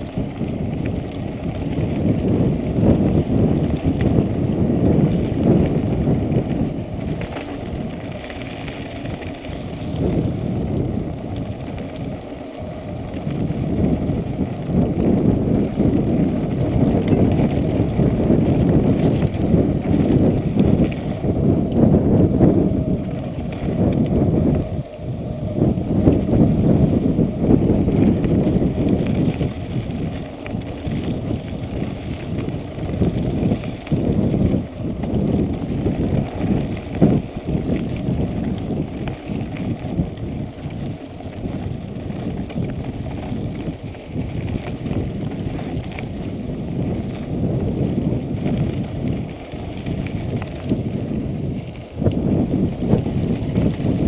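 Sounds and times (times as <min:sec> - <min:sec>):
tyres rolling on dirt: 0:00.0 - 0:54.0
wind buffeting microphone: 0:00.0 - 0:54.0.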